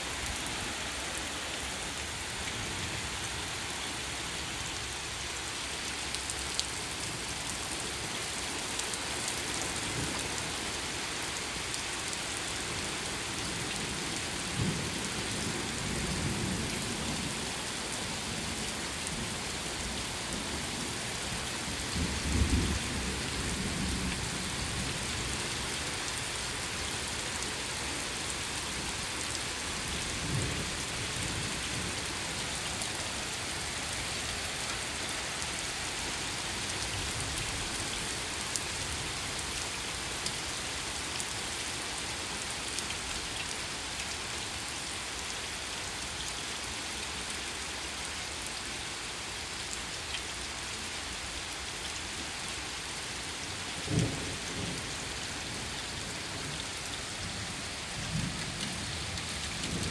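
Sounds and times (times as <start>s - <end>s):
rain falling on pavement: 0.0s - 59.9s.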